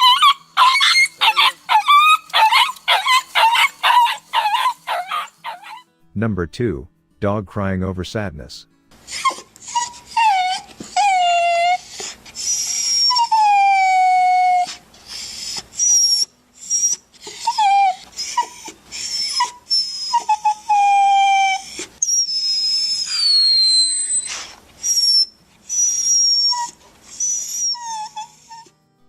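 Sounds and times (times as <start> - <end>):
dog whimpering: 0.0 - 5.9, 9.0 - 28.8
dog whining: 0.0 - 5.9, 9.0 - 28.8.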